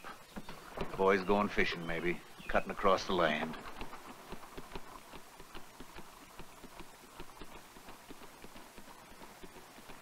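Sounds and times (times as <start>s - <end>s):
horse hooves clip-clopping: 0.0s - 10.0s.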